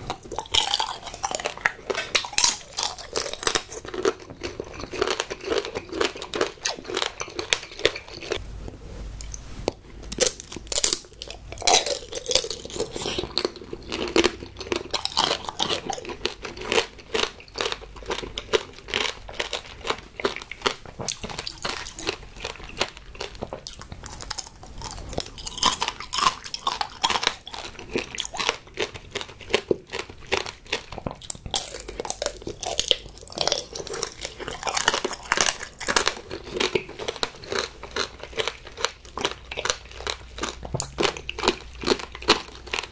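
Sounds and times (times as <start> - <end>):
crunching candied fruit: 0.0 - 8.4, 9.3 - 42.9.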